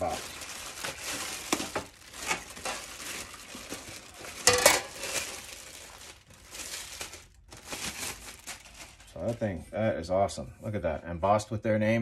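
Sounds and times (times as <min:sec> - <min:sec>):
plastic wrapping crinkling: 0:00.0 - 0:09.6.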